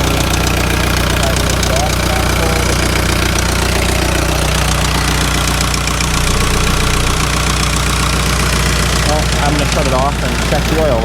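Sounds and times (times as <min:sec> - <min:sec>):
diesel engine idling: 0:00.0 - 0:11.0
engine lifter ticking: 0:00.0 - 0:11.0.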